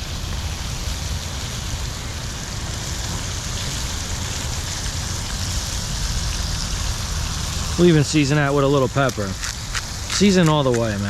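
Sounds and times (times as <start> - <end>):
bacon sizzling in a pan: 0.0 - 11.0.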